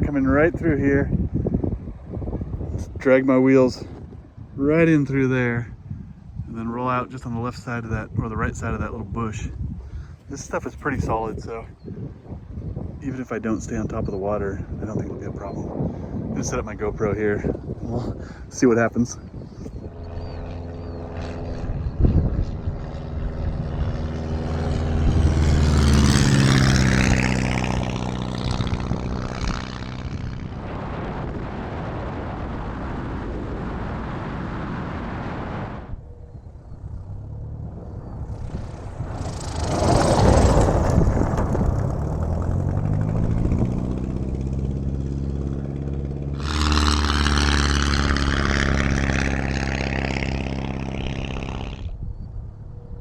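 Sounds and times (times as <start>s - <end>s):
light aircraft flying low past: 0.0s - 53.0s.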